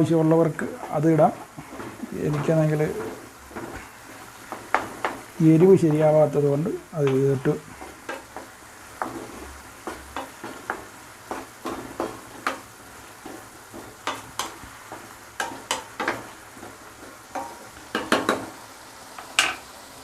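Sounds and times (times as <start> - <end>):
utensil stirring and scraping pan: 0.0 - 19.6
low steady sizzle: 0.0 - 20.0.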